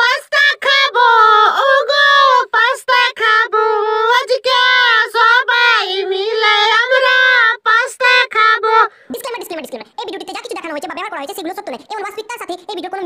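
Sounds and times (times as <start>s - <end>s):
high-pitched voice singing: 0.0s - 13.0s.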